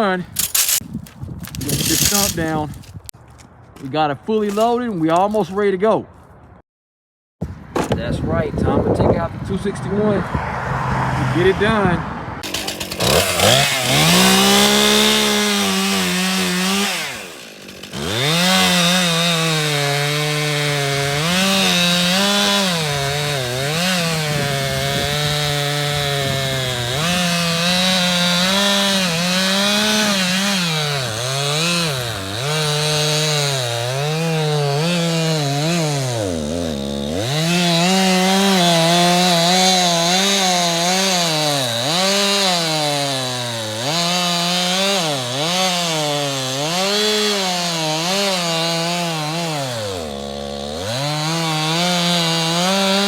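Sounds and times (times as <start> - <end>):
chainsaw cutting wood: 0.0 - 0.8, 1.4 - 3.0, 12.4 - 53.0.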